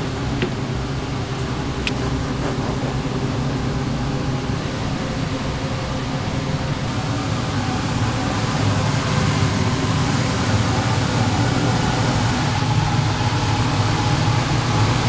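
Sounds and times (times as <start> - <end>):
mechanical hum with low drone: 0.0 - 15.0.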